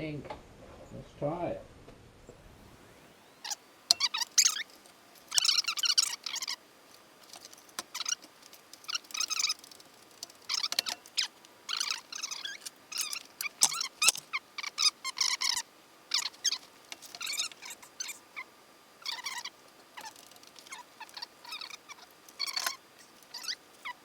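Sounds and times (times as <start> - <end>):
hoist chain squeaking and creaking: 3.4 - 6.6, 7.3 - 24.0.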